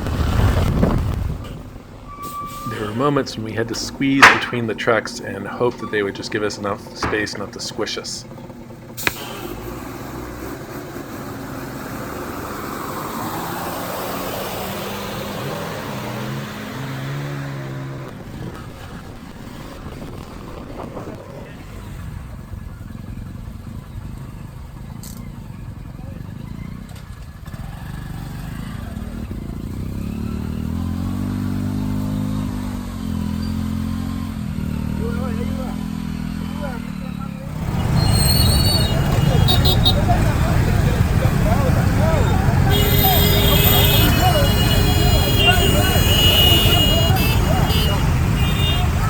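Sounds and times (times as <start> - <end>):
traffic engine hum: 0.0 - 49.0.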